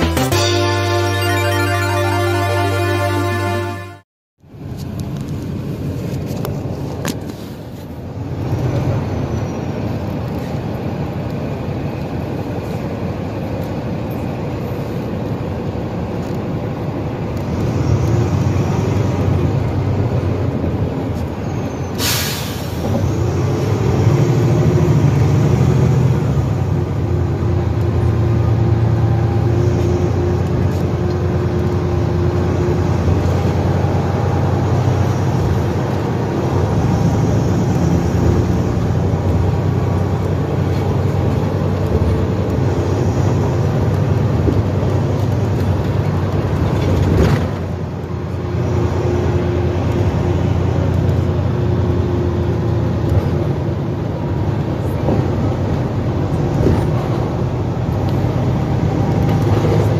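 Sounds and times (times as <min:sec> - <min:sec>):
bus diesel engine drone: 0:00.0 - 0:59.9
road noise: 0:00.0 - 0:59.9.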